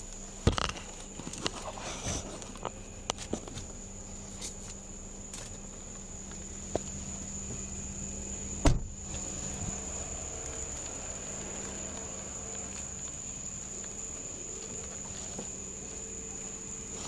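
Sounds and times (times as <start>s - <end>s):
high-pitched whine: 0.0s - 17.0s
low hum: 0.0s - 17.0s.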